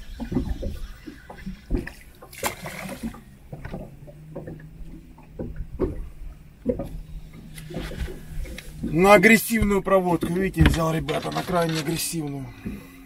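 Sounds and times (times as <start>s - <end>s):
knocks and rubbing on boat: 0.0s - 12.8s
low steady hum: 0.0s - 13.0s
small water sounds: 0.0s - 13.0s.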